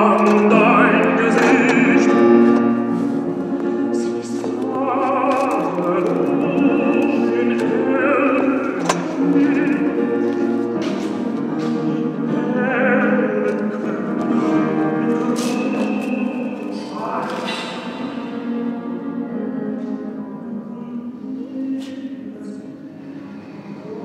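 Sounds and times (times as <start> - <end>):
instrumental accompaniment: 0.0 - 21.8
operatic singing: 0.0 - 24.0.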